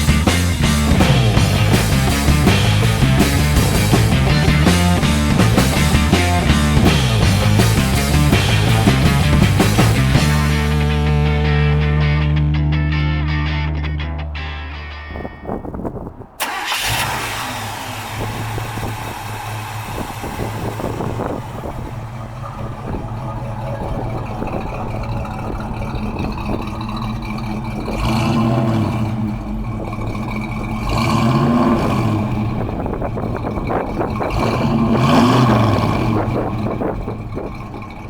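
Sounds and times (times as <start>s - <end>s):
pickup engine starting and idling: 0.0s - 38.0s.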